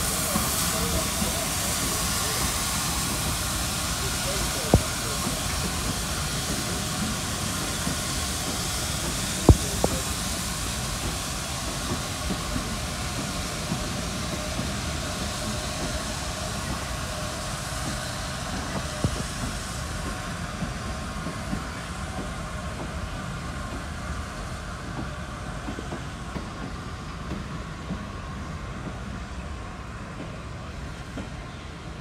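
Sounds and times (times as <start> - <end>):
steam locomotive hiss: 0.0 - 32.0
train coaches rumbling on rails: 0.0 - 32.0.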